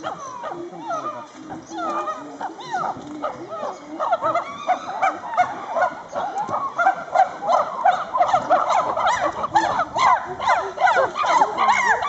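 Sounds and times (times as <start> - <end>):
chimpanzees hooting: 0.0 - 12.0.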